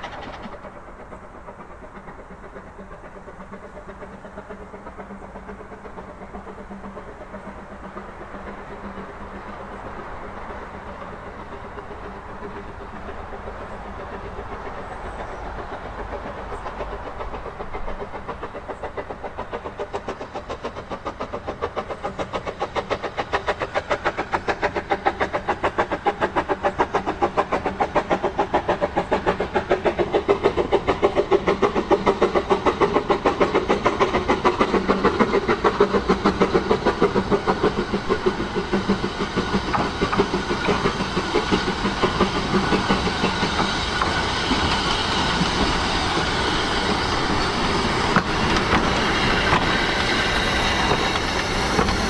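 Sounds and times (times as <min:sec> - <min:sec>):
steam locomotive exhaust beating: 0:00.0 - 0:52.0
train wheel and rail noise: 0:00.0 - 0:52.0.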